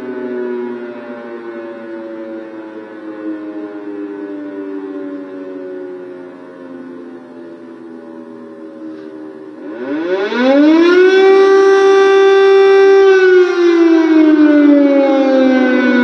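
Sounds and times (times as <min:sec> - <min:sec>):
air-raid siren wailing: 0:00.0 - 0:16.0.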